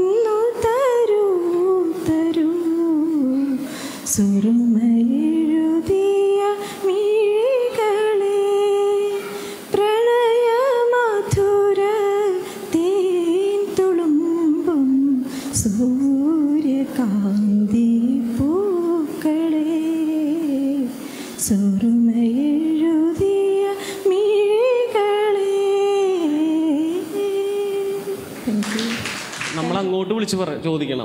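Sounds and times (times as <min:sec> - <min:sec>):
woman singing into a microphone: 0:00.0 - 0:29.0.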